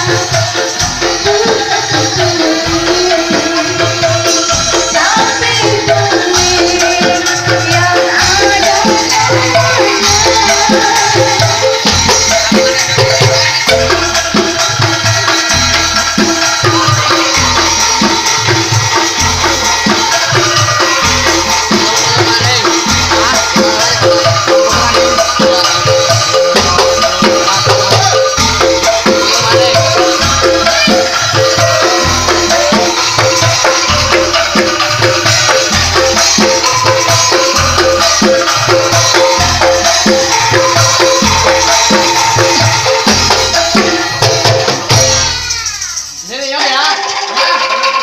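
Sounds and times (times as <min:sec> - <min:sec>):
deep drum beat: 0:00.0 - 0:45.7
wooden xylophone played with mallets: 0:00.0 - 0:48.0.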